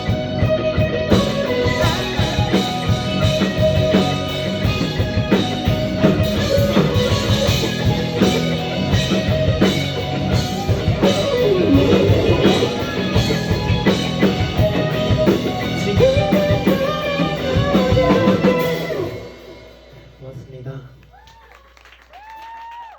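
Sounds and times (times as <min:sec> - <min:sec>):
lead guitar bending pitch: 0:00.0 - 0:20.2
rock band playing: 0:00.0 - 0:20.7.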